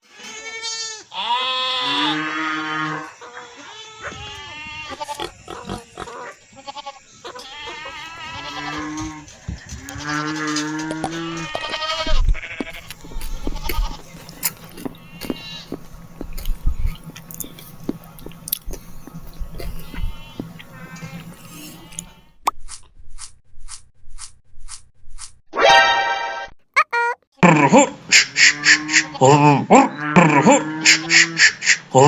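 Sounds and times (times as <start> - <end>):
farm animals bleating: 0.0 - 22.2, 28.1 - 31.6.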